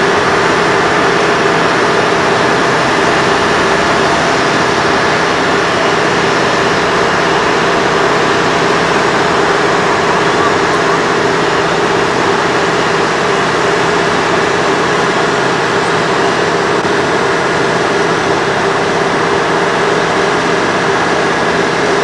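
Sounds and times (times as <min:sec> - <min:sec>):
crane engine running: 0:00.0 - 0:22.0.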